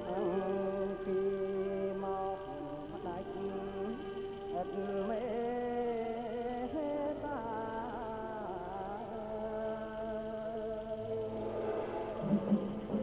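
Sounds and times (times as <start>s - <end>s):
low steady accompaniment: 0.0s - 13.0s
person singing slow melody: 0.0s - 13.0s.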